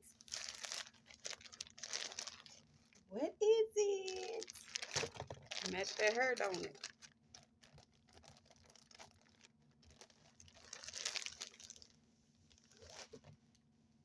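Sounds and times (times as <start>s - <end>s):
plastic packaging crinkling: 0.0s - 13.3s.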